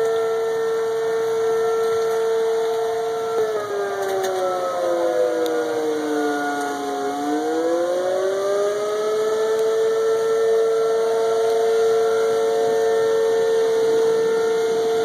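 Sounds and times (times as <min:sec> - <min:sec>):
warning siren: 0:00.0 - 0:15.0.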